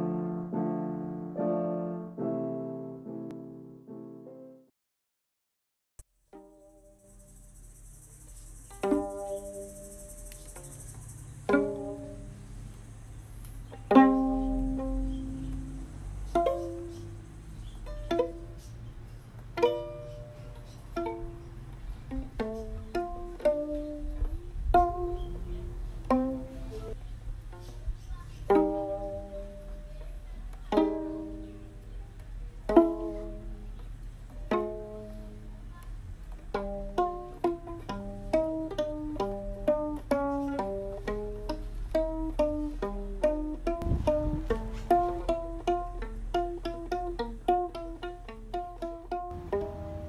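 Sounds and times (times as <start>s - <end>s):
plucked strings playing notes: 0.0s - 3.8s, 6.3s - 7.2s, 8.6s - 50.0s.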